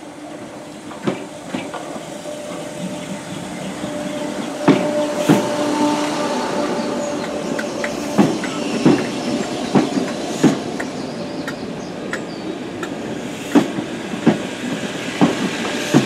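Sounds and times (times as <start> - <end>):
train wheels clacking over joints: 0.4 - 16.0.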